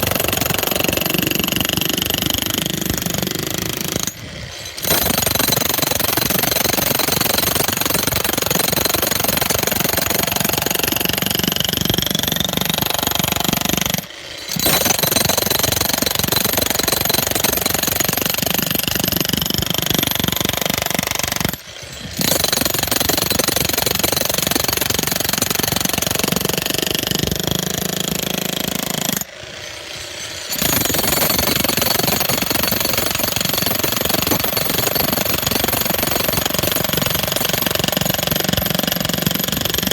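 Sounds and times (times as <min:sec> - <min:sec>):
jackhammer chiselling concrete: 0:00.0 - 0:39.9.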